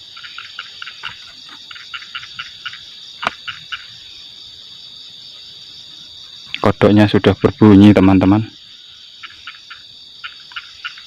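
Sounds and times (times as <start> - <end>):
frogs croaking: 0.0 - 11.0
insect trill: 0.0 - 11.0.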